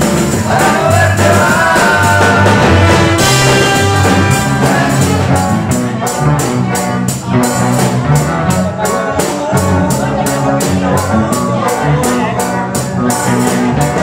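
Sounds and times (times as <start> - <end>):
rock reggae band playing: 0.0 - 14.0.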